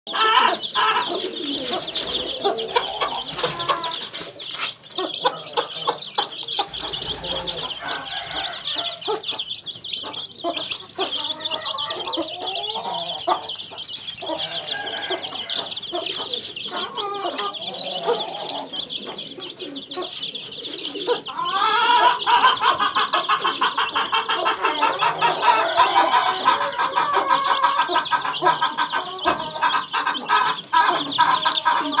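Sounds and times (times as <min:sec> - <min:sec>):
chicks peeping: 0:00.1 - 0:32.0
hen clucking: 0:00.1 - 0:32.0.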